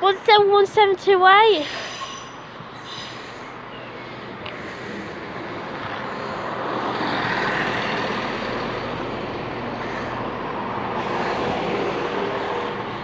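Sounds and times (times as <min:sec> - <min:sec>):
passing train rumble: 0:00.0 - 0:13.0.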